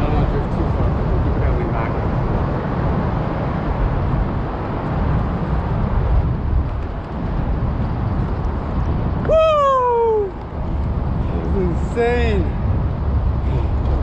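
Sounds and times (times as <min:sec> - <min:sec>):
low rumbling outdoor noise: 0:00.0 - 0:14.0.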